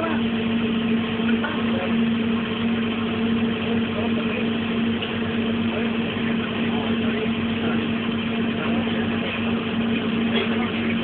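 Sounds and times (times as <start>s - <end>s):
welding machine hum: 0.0s - 11.0s.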